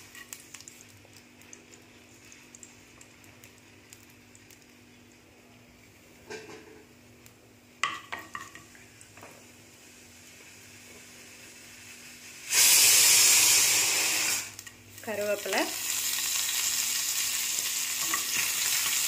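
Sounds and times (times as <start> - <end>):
seeds sizzling and crackling in oil: 0.0 - 6.2, 6.8 - 19.0.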